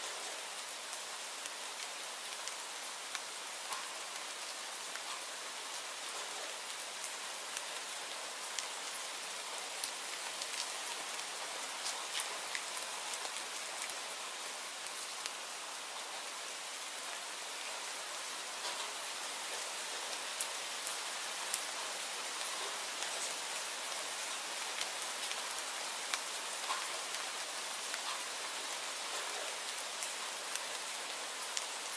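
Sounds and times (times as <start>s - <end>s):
steady rainfall: 0.0s - 31.9s.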